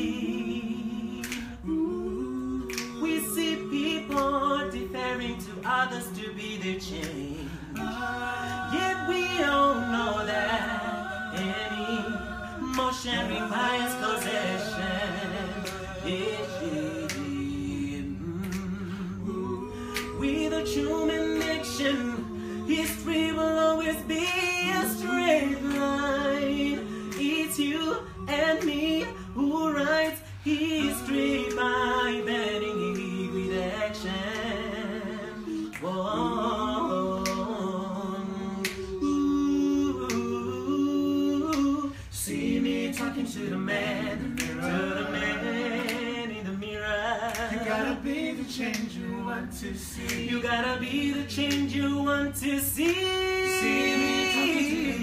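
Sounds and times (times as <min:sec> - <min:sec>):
sharp clicks keeping the beat: 0:00.0 - 0:49.1
group singing in close harmony: 0:00.0 - 0:55.0.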